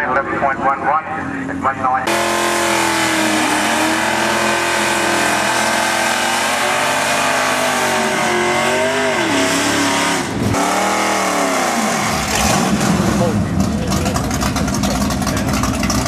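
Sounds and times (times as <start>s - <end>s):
drag car engine revving: 1.3s - 16.0s.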